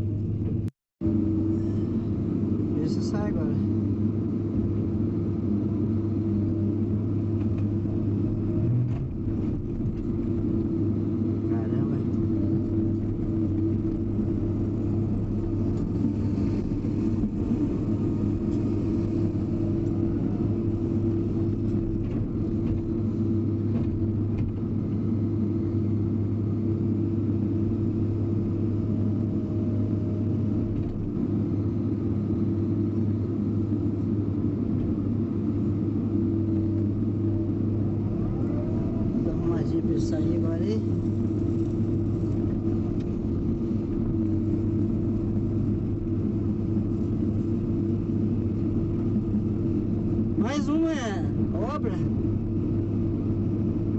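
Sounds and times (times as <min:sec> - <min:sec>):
diesel engine humming steadily: 0:00.0 - 0:53.9.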